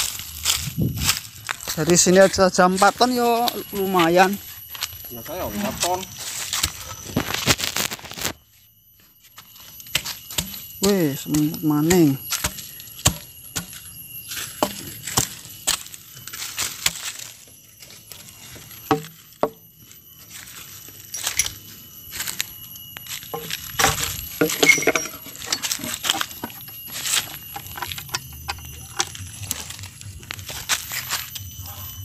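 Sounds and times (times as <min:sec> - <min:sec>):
light clinks and knocks of gear: 0:00.0 - 0:32.0.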